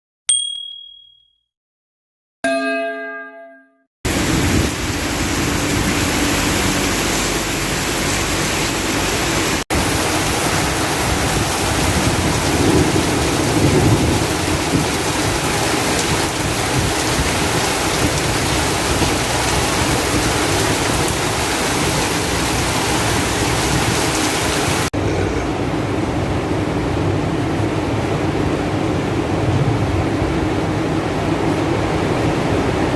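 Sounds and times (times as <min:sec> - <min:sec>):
heavy rain pouring: 0:04.1 - 0:32.9.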